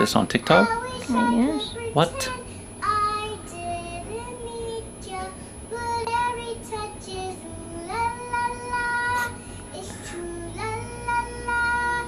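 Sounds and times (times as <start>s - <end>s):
girl singing slow tune: 0.0s - 12.0s.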